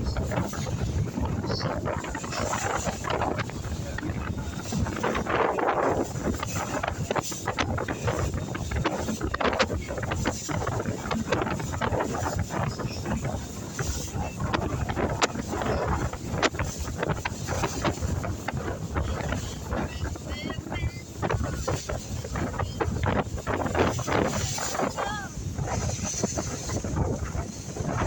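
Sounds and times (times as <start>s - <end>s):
boat running noise: 0.0s - 28.0s
wind buffeting microphone: 0.0s - 28.0s.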